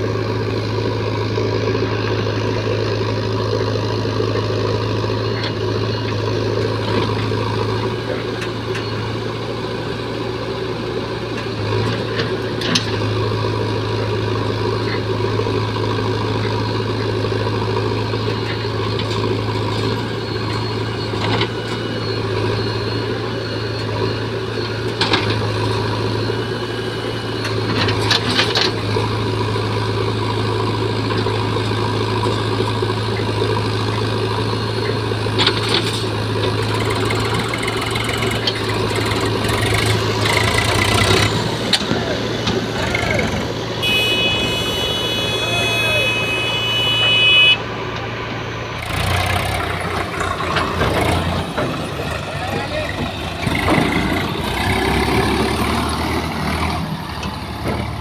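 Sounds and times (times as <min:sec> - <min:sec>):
diesel engines idling: 0:00.0 - 0:58.0.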